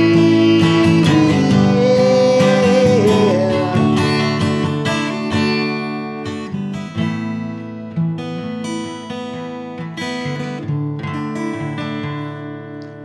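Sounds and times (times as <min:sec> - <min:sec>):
acoustic guitar strummed and picked: 0:00.0 - 0:13.0.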